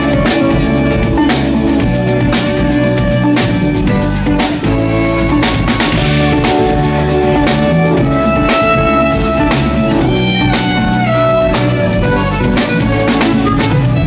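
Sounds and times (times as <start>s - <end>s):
rock band playing: 0.0s - 14.0s
violin sliding melody: 0.0s - 14.0s.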